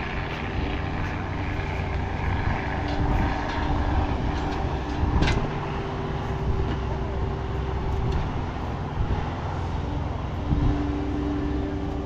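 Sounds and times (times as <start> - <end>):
diesel farm machinery drone: 0.0 - 12.0
faint steady whine: 0.0 - 12.0.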